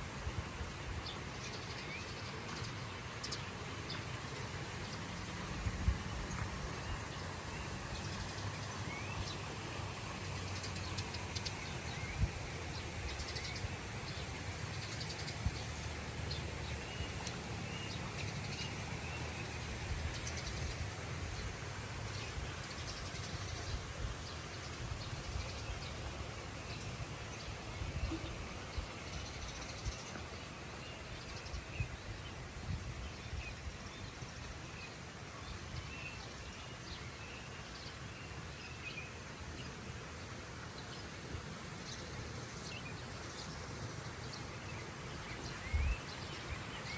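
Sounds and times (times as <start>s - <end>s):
birds chirping and trilling: 0.0s - 46.9s.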